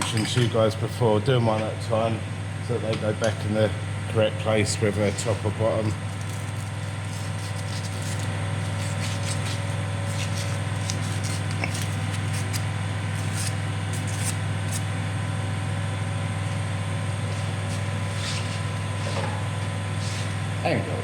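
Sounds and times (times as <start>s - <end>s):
air compressor motor hum: 0.0s - 21.0s.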